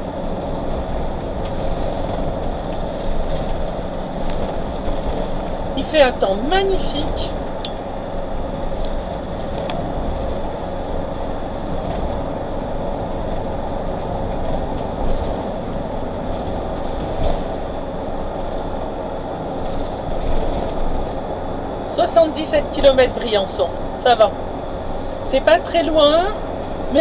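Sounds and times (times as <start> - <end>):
engine drone: 0.0 - 27.0.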